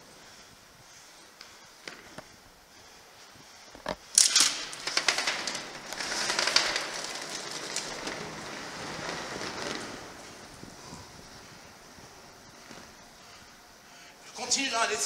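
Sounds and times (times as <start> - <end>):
roller-skate wheels on concrete: 0.0 - 13.9.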